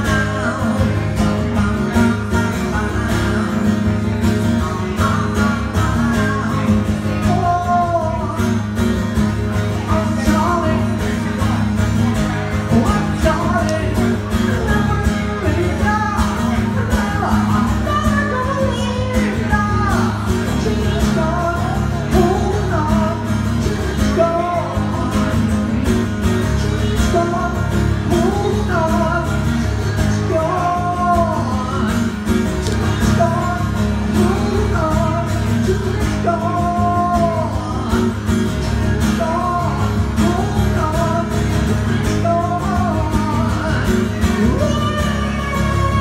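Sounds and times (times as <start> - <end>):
acoustic guitar strummed: 0.0 - 46.0
person singing: 0.0 - 46.0.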